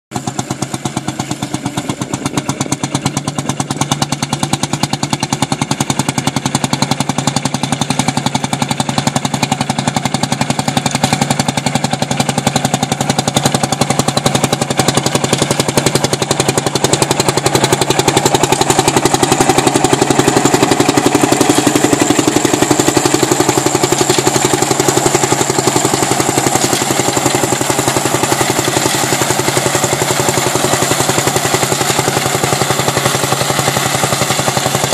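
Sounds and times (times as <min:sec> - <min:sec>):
tractor diesel engine beating: 0:00.1 - 0:34.9.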